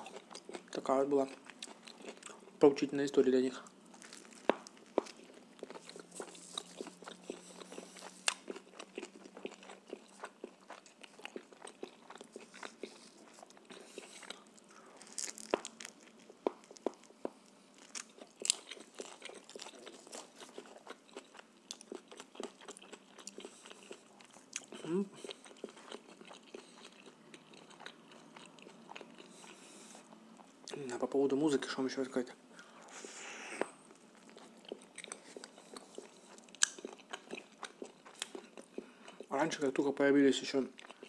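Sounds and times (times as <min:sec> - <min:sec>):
person chewing food: 0:00.0 - 0:02.6, 0:03.7 - 0:30.9, 0:32.6 - 0:39.3, 0:40.7 - 0:41.0.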